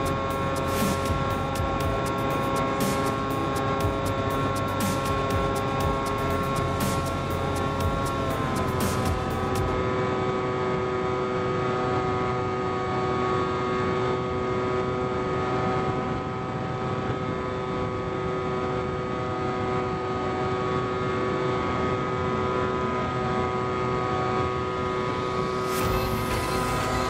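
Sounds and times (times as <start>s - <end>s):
electric motor and propeller whine: 0.0s - 27.0s.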